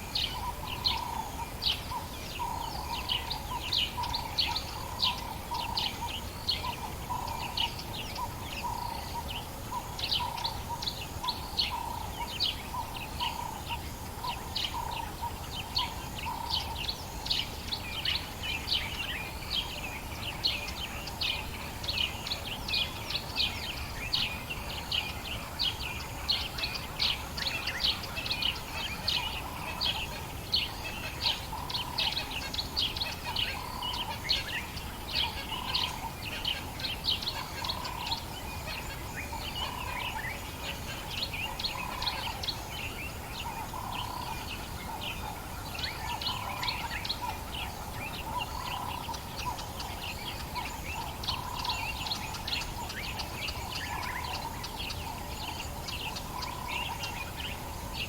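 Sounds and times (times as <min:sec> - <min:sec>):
birds chirping: 0:00.2 - 0:58.0.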